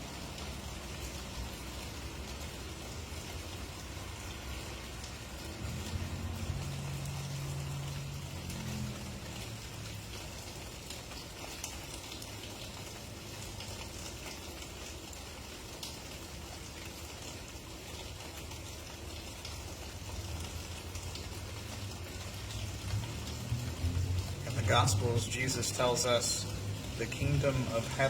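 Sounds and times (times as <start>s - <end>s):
raindrops ticking close by: 0.0s - 28.0s
steady rain falling: 0.0s - 28.0s.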